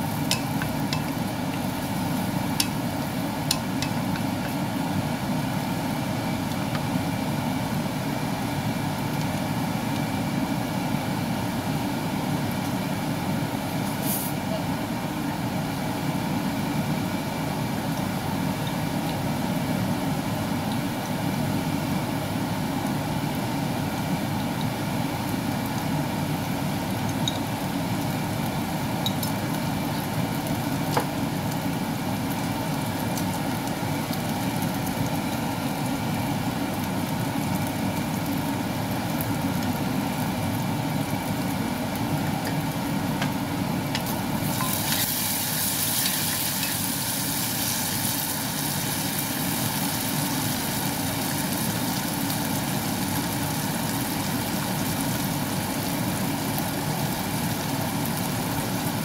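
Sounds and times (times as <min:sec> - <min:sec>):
garlic sizzling in oil: 0:00.0 - 0:14.4, 0:15.6 - 0:59.0.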